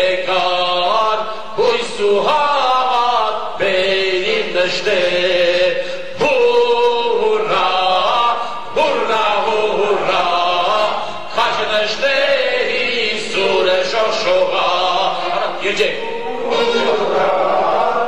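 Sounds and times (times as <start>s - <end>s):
man chanting into a microphone: 0.0s - 17.3s.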